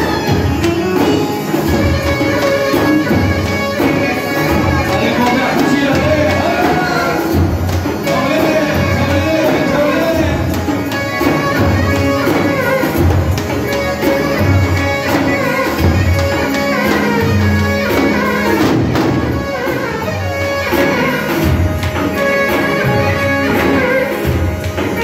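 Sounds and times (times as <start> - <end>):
davul bass drums beating: 0.0 - 25.0
zurna reedy melody: 0.0 - 25.0.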